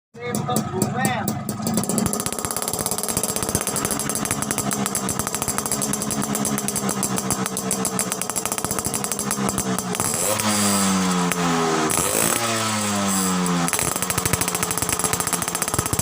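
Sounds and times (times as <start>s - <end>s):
two-stroke motorcycle engine idling: 0.2s - 16.0s.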